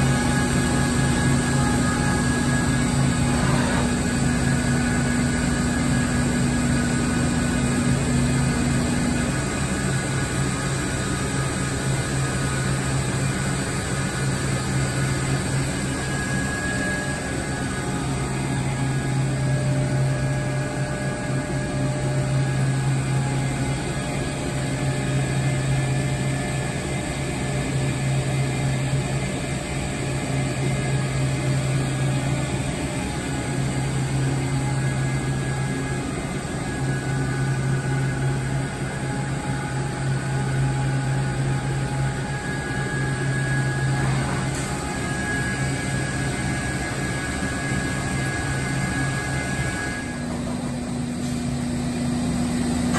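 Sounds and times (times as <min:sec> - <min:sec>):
machine idling hum: 0:00.0 - 0:52.9.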